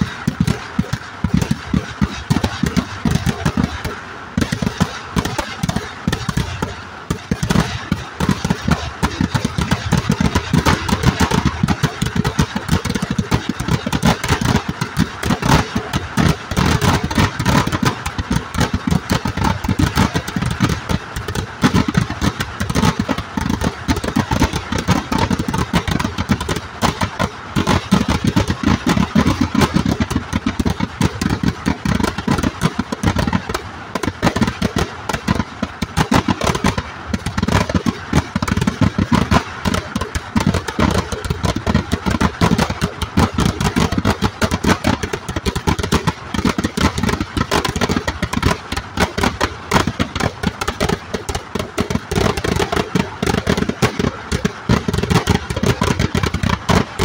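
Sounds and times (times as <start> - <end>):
firecracker bangs: 0.0 - 57.0.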